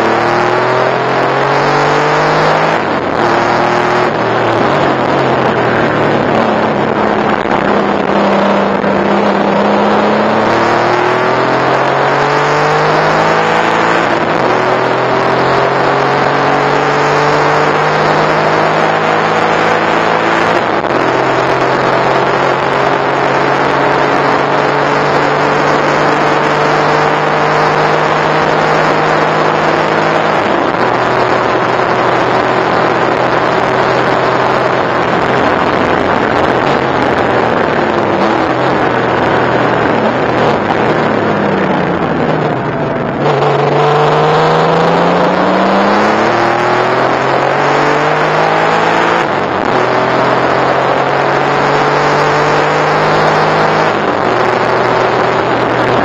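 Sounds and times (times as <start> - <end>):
car engine under full throttle: 0.0 - 56.0.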